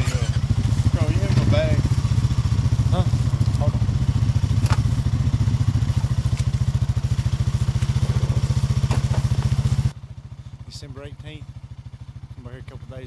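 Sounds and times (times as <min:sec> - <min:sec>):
engine running with low throb: 0:00.0 - 0:13.0.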